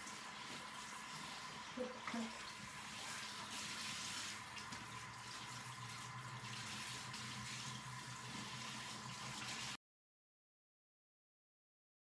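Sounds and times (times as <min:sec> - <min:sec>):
shower sprayer hissing: 0:00.0 - 0:09.8.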